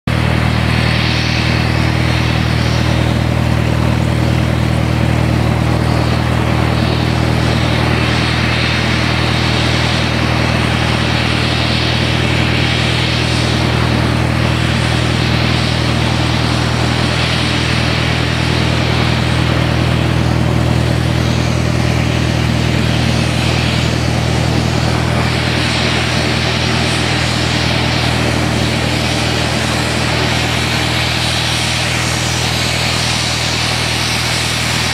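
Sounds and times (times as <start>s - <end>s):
propeller hum: 0.0s - 34.9s
turbine hiss: 0.1s - 34.9s.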